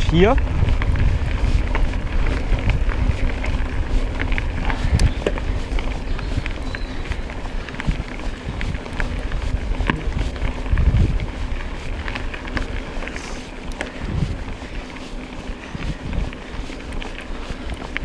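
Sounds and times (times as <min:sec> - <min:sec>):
bike rattling and clicking: 0:00.0 - 0:18.0
bike tyre rumble on dirt: 0:00.0 - 0:18.0
wind buffeting microphone: 0:00.0 - 0:18.0.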